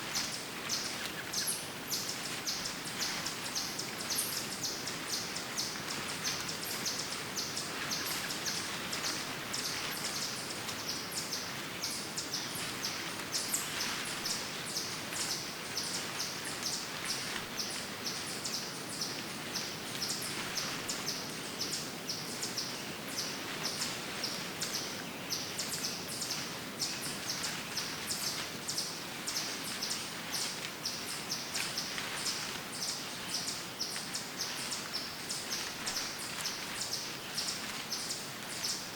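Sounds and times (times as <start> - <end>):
steady background hiss: 0.0 - 38.9
small birds chirping: 0.1 - 38.9.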